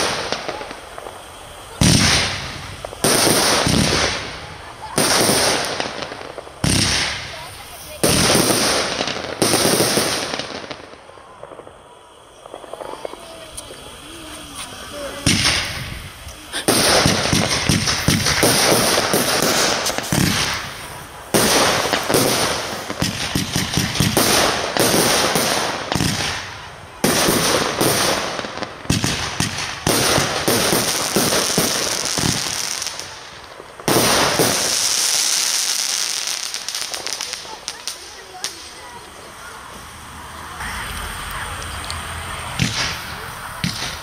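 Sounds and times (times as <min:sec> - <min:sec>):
fireworks bursting: 0:00.0 - 0:44.0
fireworks crackling: 0:00.0 - 0:44.0.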